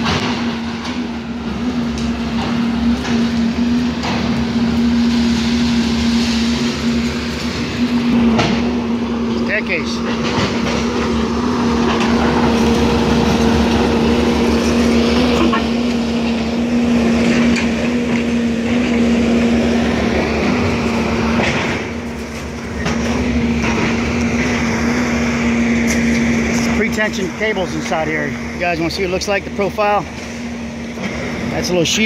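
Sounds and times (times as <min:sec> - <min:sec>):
excavator engine droning: 0:00.0 - 0:32.0.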